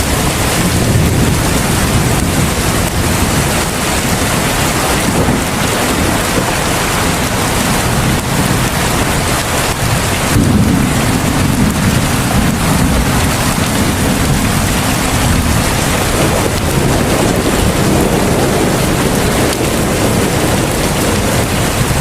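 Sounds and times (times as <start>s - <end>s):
heavy rain hissing: 0.0s - 22.0s
low rumble: 0.0s - 22.0s.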